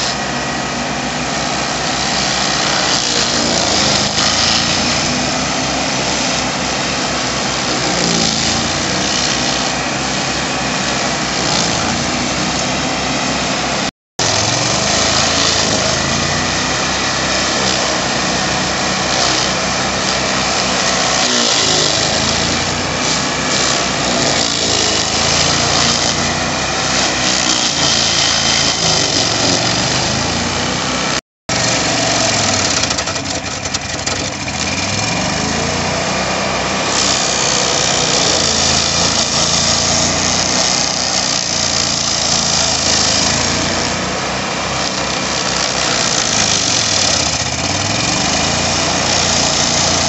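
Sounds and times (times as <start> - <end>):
engine running under load: 0.0 - 50.0
stump grinder wheel grinding: 0.0 - 50.0.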